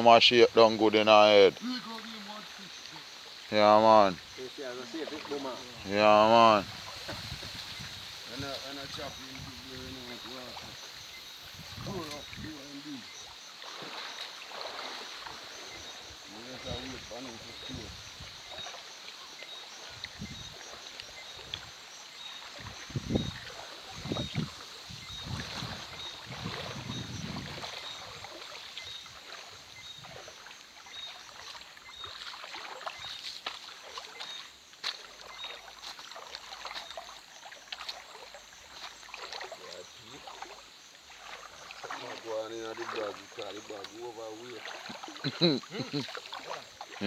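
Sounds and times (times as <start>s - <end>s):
water sloshing and splashing: 0.0s - 47.0s.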